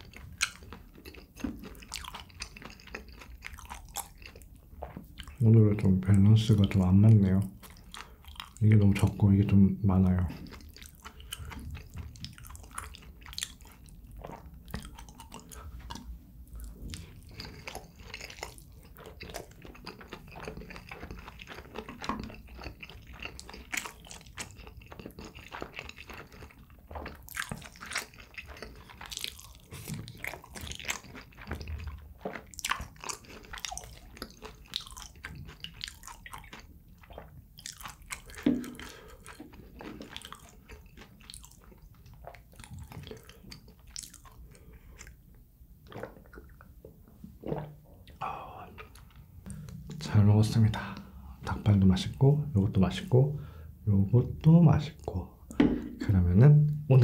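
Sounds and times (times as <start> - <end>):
person chewing wet clicks: 0.0 - 53.3.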